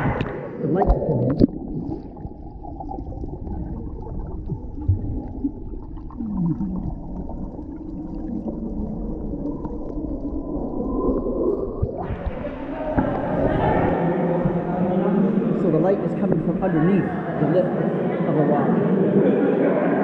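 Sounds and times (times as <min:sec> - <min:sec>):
muffled underwater rush: 0:00.0 - 0:20.0.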